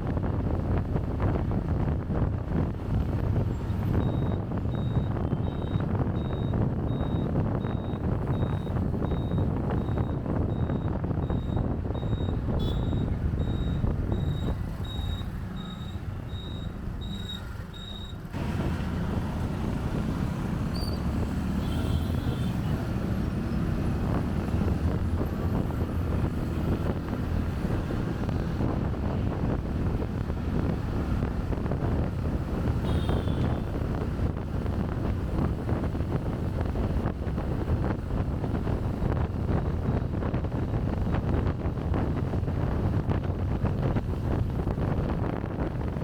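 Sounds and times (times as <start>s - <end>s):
wind on microphone: 0.0s - 15.6s, 18.3s - 46.0s
traffic rumble: 0.0s - 46.0s.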